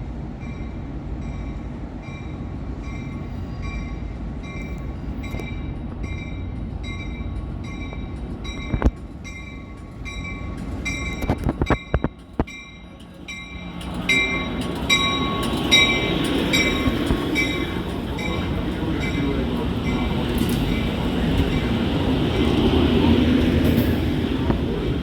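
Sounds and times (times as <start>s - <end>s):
train rumbling: 0.0s - 25.0s
station bell ringing: 0.4s - 25.0s.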